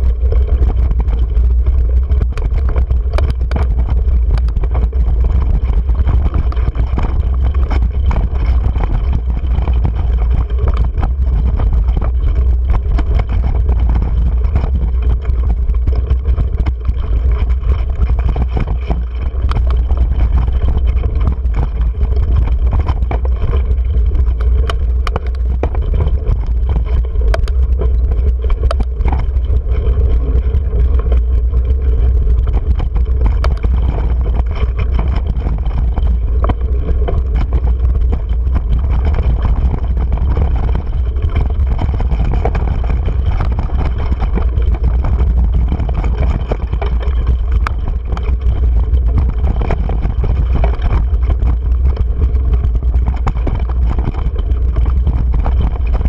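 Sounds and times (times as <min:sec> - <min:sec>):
bike rattling over stones: 0:00.0 - 0:56.0
wind and trail vibration rumble: 0:00.0 - 0:56.0.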